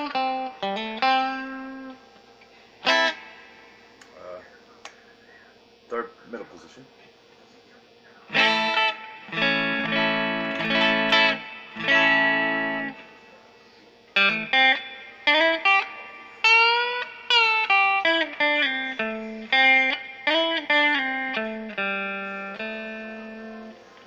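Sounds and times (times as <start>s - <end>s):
electric guitar single notes with bends: 0.0s - 4.4s, 8.2s - 24.0s
strummed electric guitar chords: 0.0s - 4.4s, 7.8s - 24.0s.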